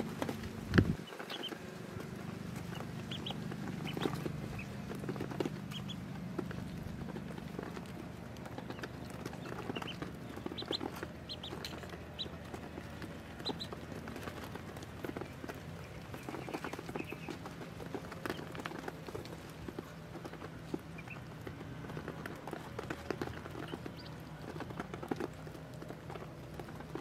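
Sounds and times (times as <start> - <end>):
bills pecking feed off a plate: 0.0 - 27.0
ducklings peeping: 0.0 - 27.0.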